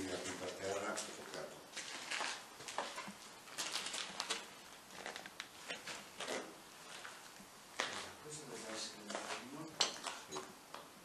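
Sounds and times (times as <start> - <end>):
footsteps crunching on rubble: 0.1 - 10.3
rustling: 0.1 - 10.3.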